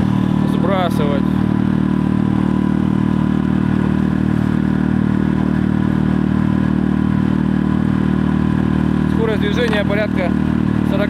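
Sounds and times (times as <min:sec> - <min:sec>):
outboard motor at full throttle: 0:00.0 - 0:11.0.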